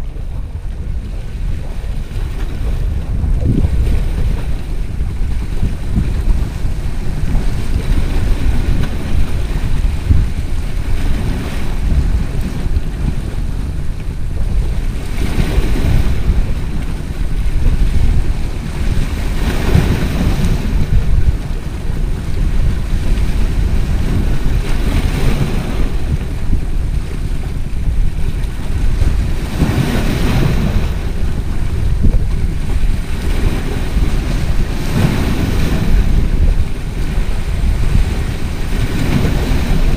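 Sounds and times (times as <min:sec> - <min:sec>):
waves washing against rocks: 0:00.0 - 0:39.9
wind buffeting microphone: 0:00.0 - 0:39.9.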